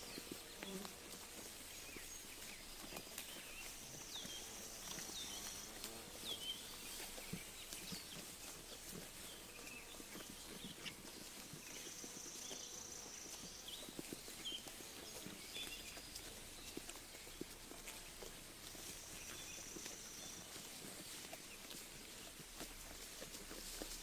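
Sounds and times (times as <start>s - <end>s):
sheep chewing grass: 0.0s - 24.0s
small birds chirping: 0.0s - 24.0s.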